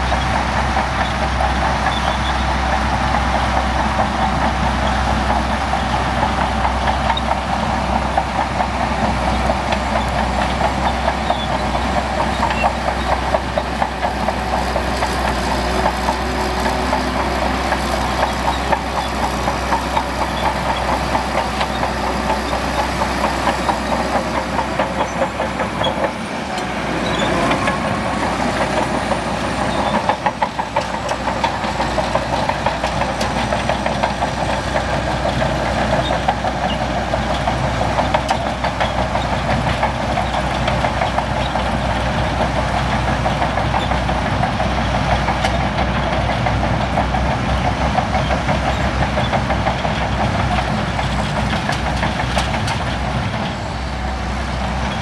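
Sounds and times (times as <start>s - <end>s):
bulldozer diesel engine clattering: 0.0s - 55.0s.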